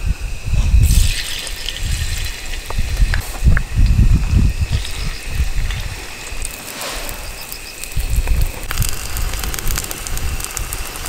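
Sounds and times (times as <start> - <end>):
wind rumble on microphone: 0.0 - 11.0
food sizzling on a griddle: 0.8 - 3.5, 4.5 - 11.0.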